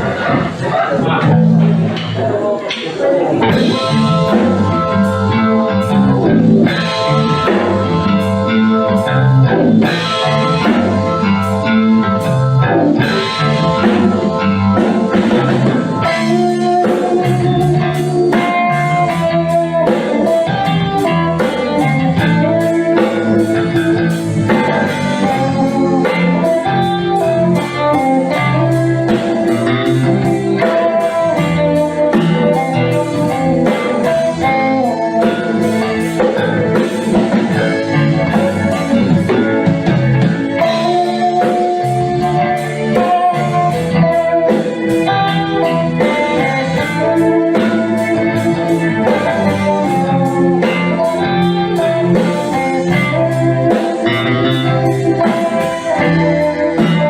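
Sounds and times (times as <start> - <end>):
electric guitar: 0.0 - 57.0
rock-blues band playing: 0.0 - 57.0.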